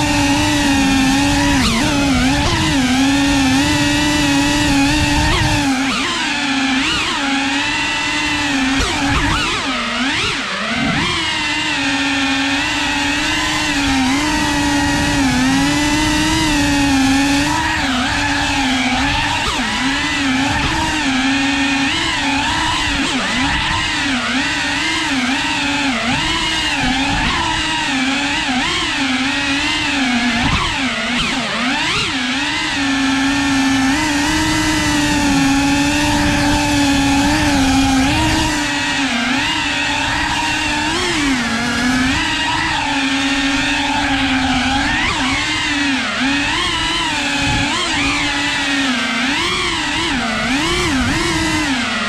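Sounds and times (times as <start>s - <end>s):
drone motors whining: 0.0s - 52.0s.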